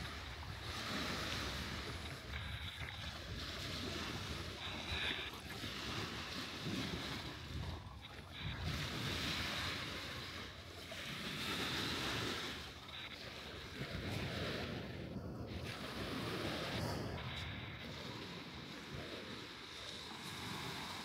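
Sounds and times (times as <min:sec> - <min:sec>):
surf washing onto beach: 0:00.0 - 0:21.0
wind rumbling on microphone: 0:00.0 - 0:21.0.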